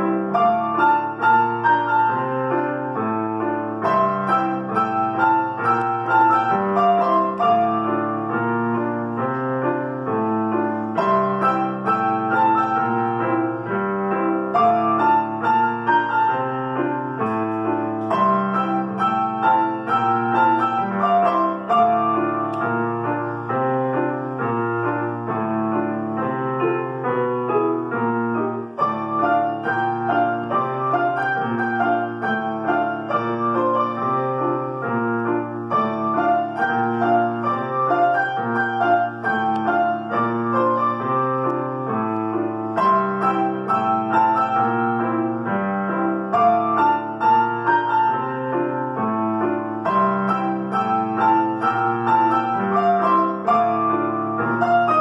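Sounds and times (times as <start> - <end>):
pianos playing together: 0.0 - 55.0.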